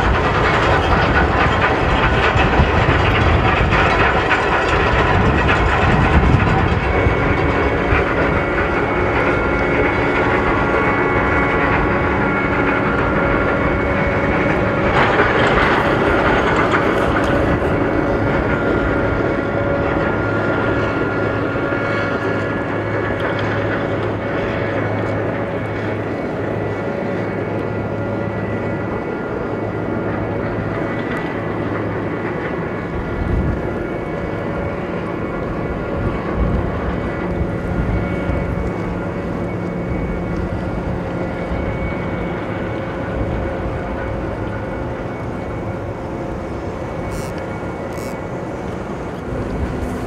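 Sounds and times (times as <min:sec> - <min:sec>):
multi-tone hum: 0:00.0 - 0:50.0
ship engines rumbling: 0:00.0 - 0:50.0
water churning along hull: 0:00.0 - 0:50.0.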